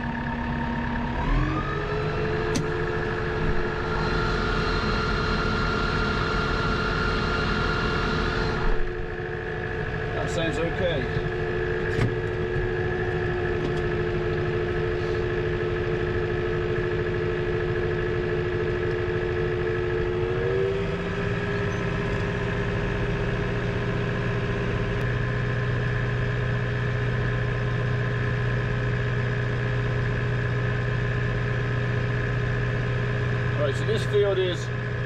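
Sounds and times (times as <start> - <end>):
tractor engine and mower running: 0.0 - 35.0.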